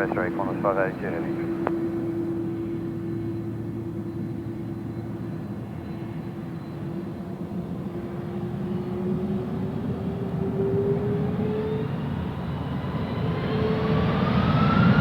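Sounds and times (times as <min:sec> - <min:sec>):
jet engine whine and rumble: 0:00.0 - 0:15.0.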